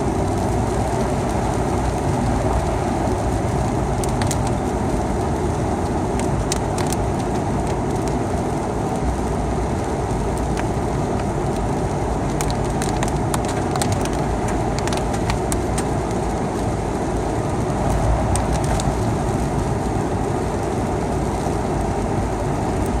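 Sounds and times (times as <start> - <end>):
raindrops ticking: 0.0 - 23.0
vehicle driving on wet road: 0.0 - 23.0.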